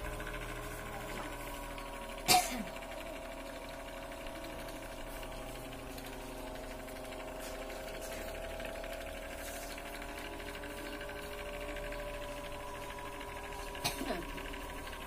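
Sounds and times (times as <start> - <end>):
electric fan motor hum: 0.0 - 15.0.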